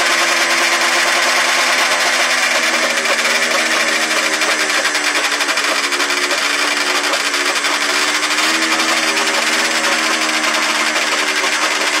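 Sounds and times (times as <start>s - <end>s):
two-stroke engine idling: 0.0s - 12.0s.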